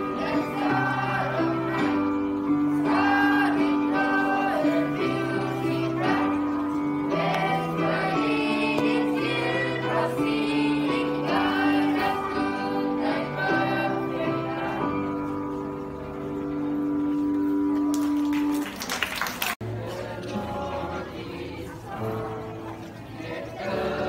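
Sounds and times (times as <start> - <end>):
choir singing: 0.0 - 15.4, 19.6 - 24.0.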